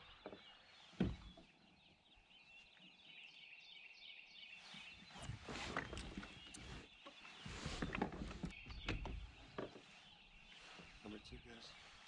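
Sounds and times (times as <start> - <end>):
open water ambience: 0.0 - 3.3, 4.6 - 12.0
birds chirping: 0.0 - 12.0.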